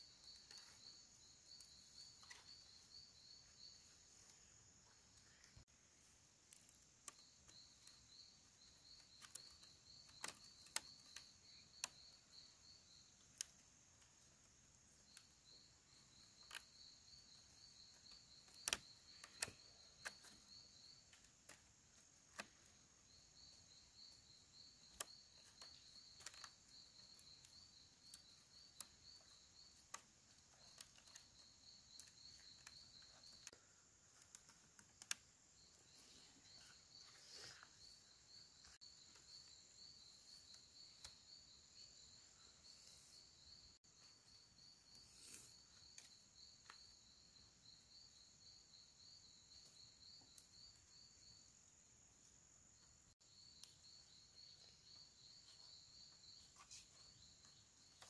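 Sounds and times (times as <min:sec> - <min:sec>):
insects chirping in pulses: 0:00.0 - 0:05.7, 0:06.5 - 0:58.0
high insect hiss: 0:00.0 - 0:58.0.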